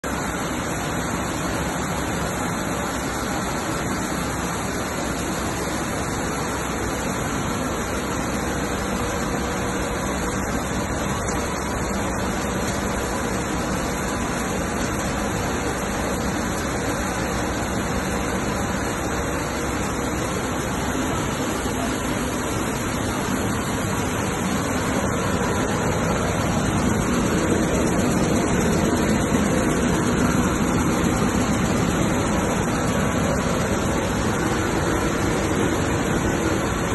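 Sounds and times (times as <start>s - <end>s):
grain machine rushing: 0.1s - 36.9s.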